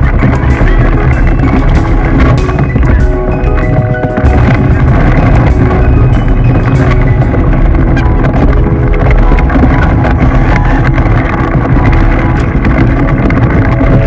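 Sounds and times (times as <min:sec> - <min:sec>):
rushing and rumbling: 0:00.0 - 0:14.0.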